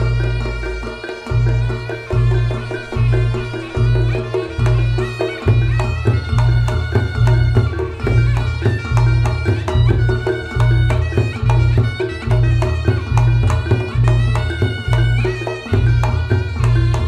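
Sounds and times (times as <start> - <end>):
hand drum strokes: 0.0 - 17.0
reedy shawm melody: 0.0 - 17.0.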